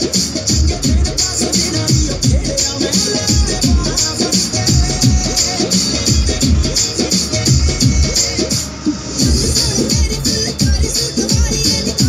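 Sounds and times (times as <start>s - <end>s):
music with heavy beat and bass: 0.0s - 12.0s.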